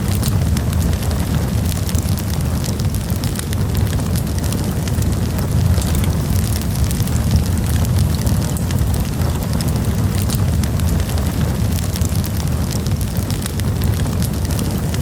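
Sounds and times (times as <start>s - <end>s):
campfire crackling and popping: 0.0s - 15.0s
low rumble: 0.0s - 15.0s.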